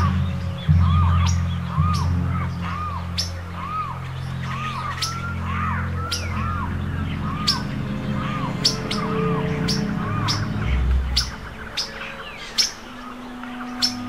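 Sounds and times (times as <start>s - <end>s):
bird arching call: 0.0s - 14.0s
high bird chirps: 0.0s - 14.0s
low steady drone: 0.0s - 14.0s.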